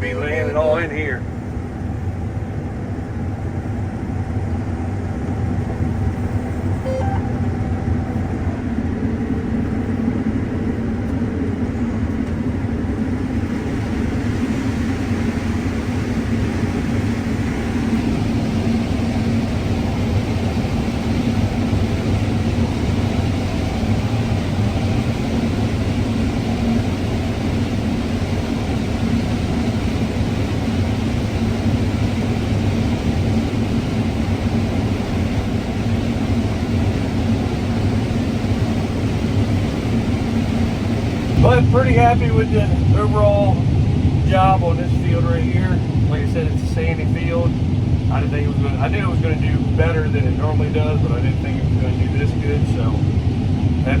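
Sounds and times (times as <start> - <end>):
combine harvester machinery drone: 0.0 - 54.0.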